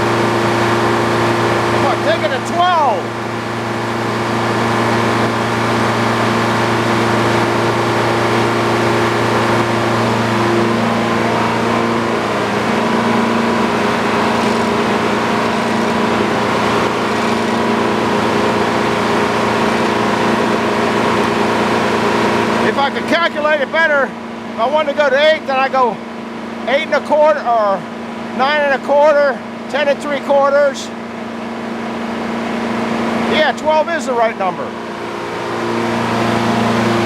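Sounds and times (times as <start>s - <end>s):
sawmill droning: 0.0s - 37.0s.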